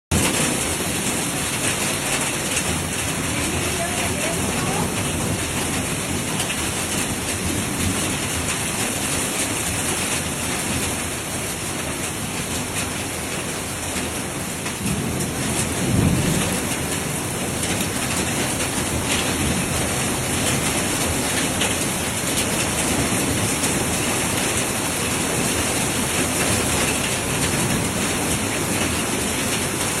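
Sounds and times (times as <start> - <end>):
hail and rain pelting: 0.1 - 30.0.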